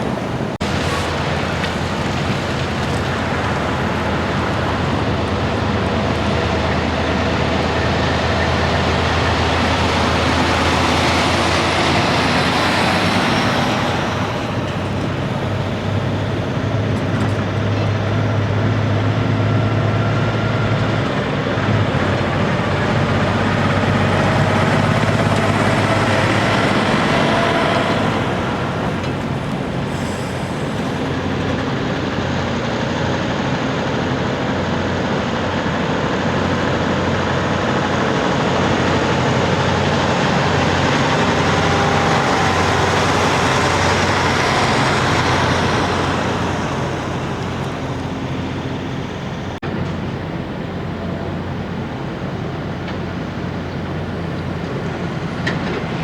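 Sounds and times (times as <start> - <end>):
diesel trucks driving past: 0.0 - 56.0.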